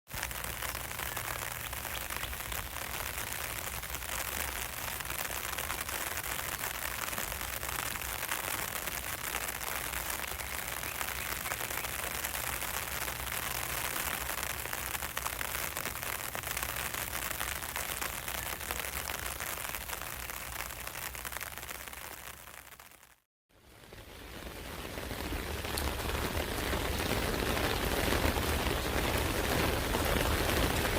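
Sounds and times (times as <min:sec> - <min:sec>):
rain on an umbrella: 0:00.1 - 0:30.9.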